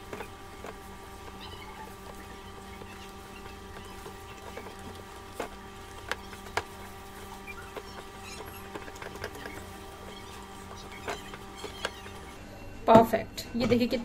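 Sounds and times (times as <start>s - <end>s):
hands squishing moist dough: 0.0s - 12.4s
steady low hum: 0.0s - 13.6s.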